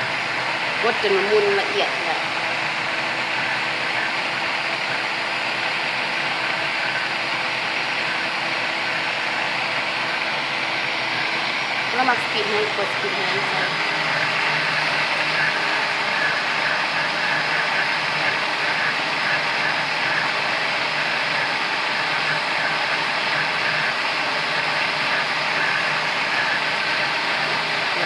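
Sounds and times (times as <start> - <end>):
electric blender motor running: 0.0 - 28.0.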